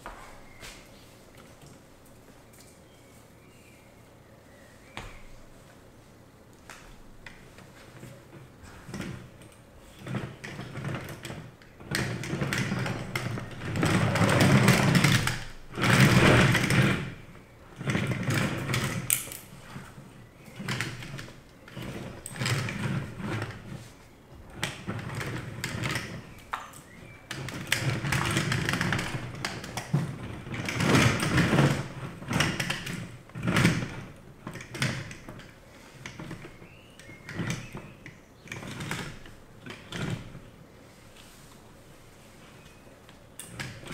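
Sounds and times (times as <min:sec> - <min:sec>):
wheels rolling over wooden floor: 0:06.6 - 0:43.9.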